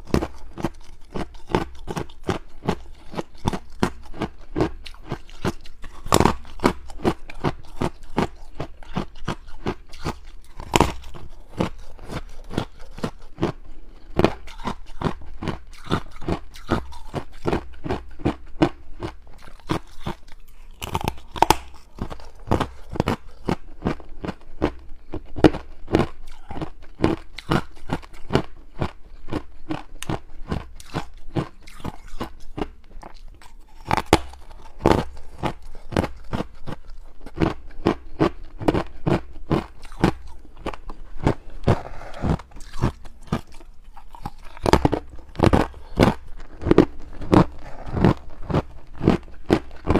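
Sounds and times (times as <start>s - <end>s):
person crunching ice: 0.0s - 49.9s.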